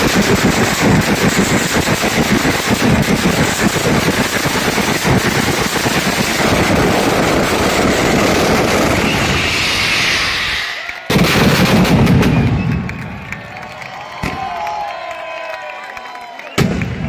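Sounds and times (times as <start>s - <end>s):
firecrackers banging rapidly: 0.0s - 14.9s, 16.5s - 17.0s.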